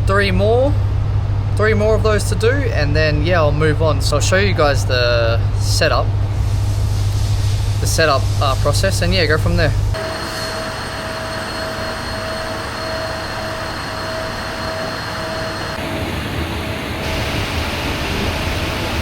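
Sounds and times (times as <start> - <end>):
machinery running: 0.0 - 19.0
thin steady whine: 0.0 - 19.0.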